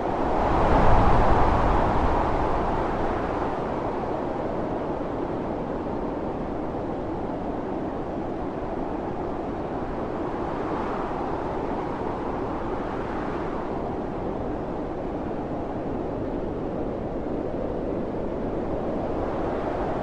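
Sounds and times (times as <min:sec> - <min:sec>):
wind howling in snowstorm: 0:00.0 - 0:20.0.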